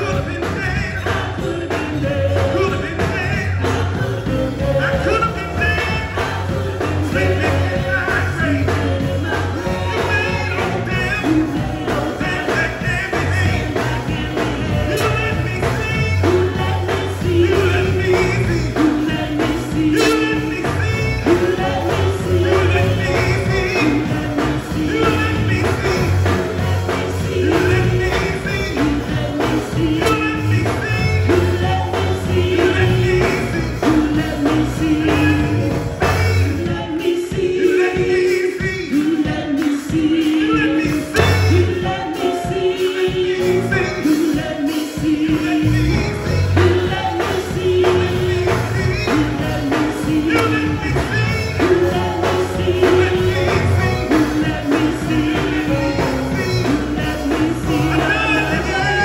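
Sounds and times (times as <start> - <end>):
bass line: 0.0 - 59.0
drums: 0.0 - 59.0
gospel choir singing: 0.0 - 59.0.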